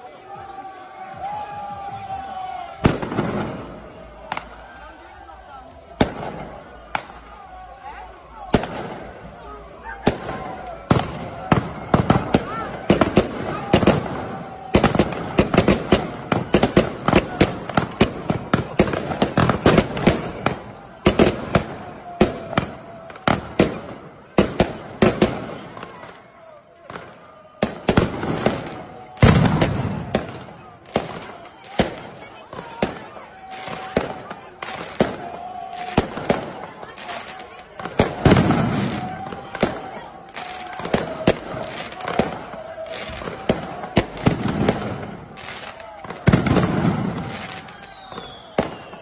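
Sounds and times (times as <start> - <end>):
firecrackers banging: 0.5 - 49.0.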